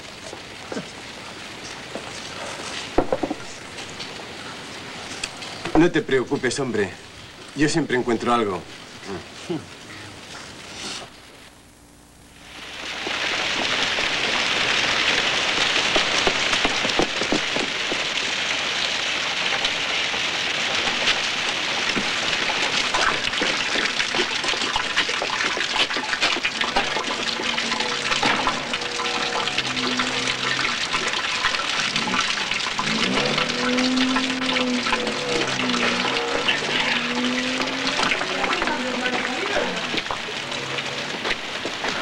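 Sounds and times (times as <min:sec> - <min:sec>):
rushing crackling water: 0:00.0 - 0:11.5, 0:12.4 - 0:42.0.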